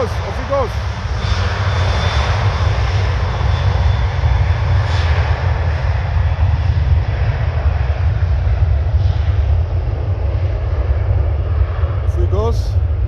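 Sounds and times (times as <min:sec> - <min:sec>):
jet engines at takeoff power: 0:00.0 - 0:13.0.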